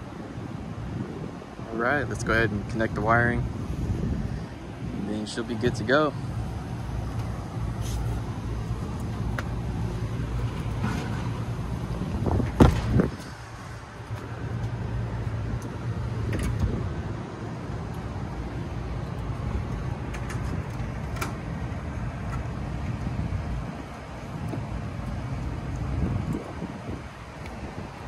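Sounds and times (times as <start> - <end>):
low machinery rumble: 0.6 - 28.0.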